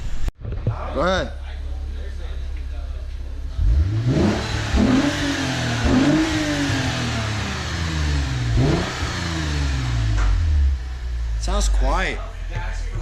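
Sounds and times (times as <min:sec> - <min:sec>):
car engine revving: 0:00.8 - 0:13.0.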